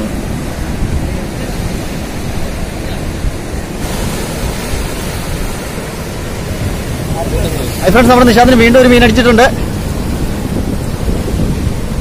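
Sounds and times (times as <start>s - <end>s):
surf breaking against rocks: 0.0s - 12.0s
wind noise on microphone: 0.0s - 12.0s.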